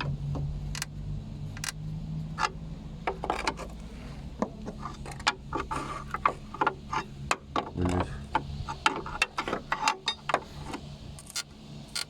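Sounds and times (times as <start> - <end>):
low steady hum: 0.0 - 12.0
suspension creaking and clicking: 0.0 - 12.0.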